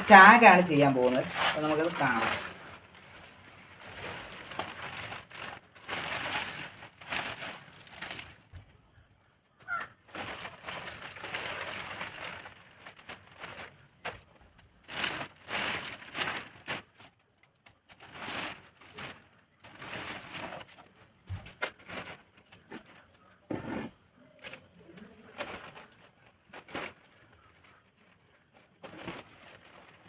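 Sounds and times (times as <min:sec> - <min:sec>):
plastic sheet rustling: 0:00.0 - 0:08.9, 0:09.6 - 0:30.0.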